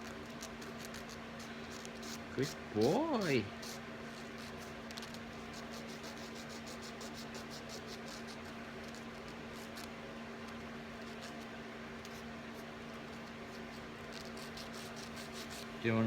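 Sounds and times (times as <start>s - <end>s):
nail file rasping: 0.0s - 3.0s, 3.6s - 15.7s
low electrical hum: 0.0s - 16.0s.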